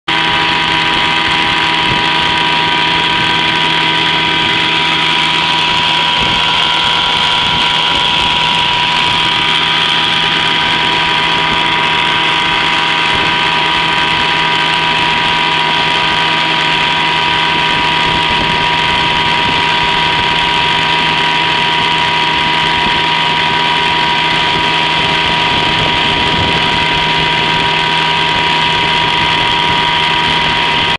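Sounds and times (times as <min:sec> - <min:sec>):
outboard motor running: 0:00.0 - 0:30.9.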